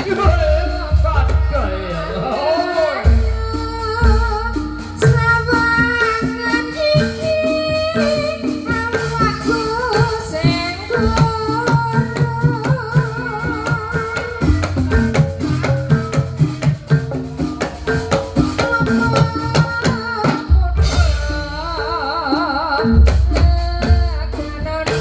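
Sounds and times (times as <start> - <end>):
drums: 0.0 - 25.0
struck tuned percussion: 0.0 - 25.0.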